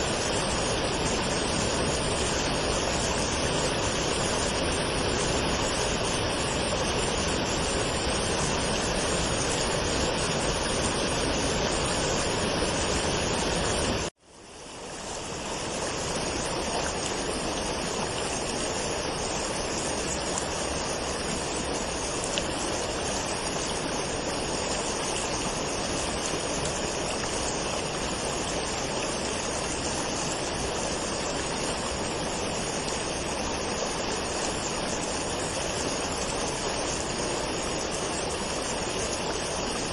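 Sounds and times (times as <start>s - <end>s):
waterfall rushing: 0.0s - 14.1s, 14.7s - 39.9s.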